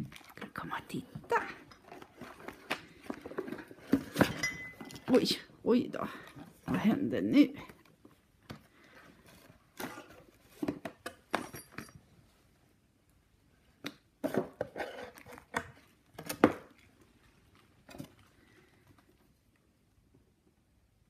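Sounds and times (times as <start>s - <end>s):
cardboard box and toys rustling: 0.0s - 12.2s, 14.2s - 19.5s.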